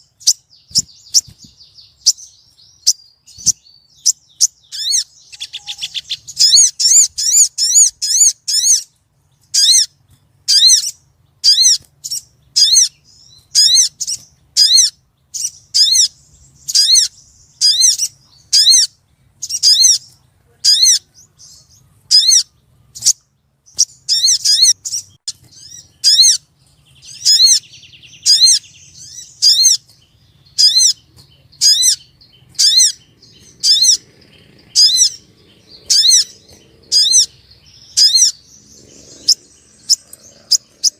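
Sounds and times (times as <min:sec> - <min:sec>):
bird high sharp chirps: 0:00.0 - 0:40.9.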